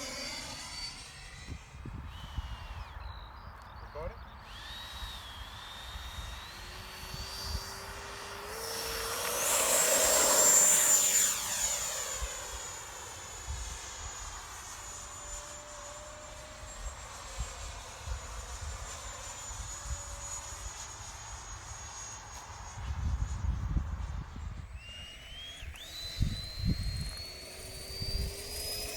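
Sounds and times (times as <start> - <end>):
model jet fan whining: 0.0 - 28.9.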